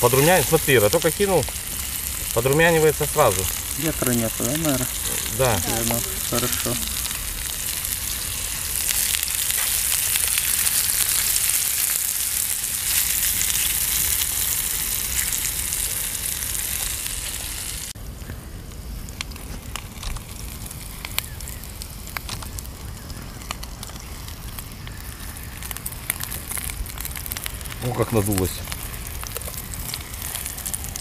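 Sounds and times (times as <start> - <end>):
sausage sizzling in a pan: 0.0 - 18.0, 18.9 - 31.0
pops and crackles: 0.0 - 18.4, 19.0 - 31.0.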